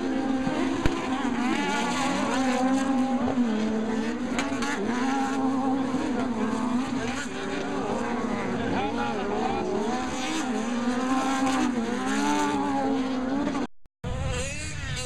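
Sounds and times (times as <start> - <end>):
buggy engines revving: 0.0 - 15.0.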